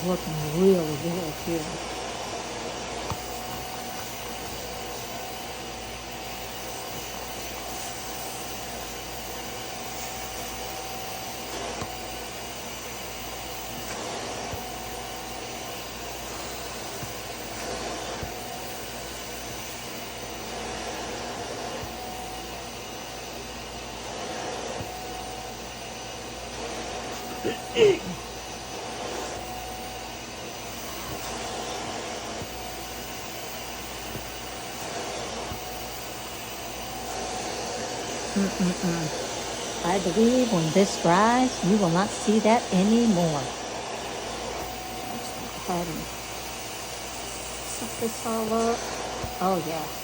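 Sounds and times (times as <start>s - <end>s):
spot cleaner suction motor whirring: 0.0s - 50.0s.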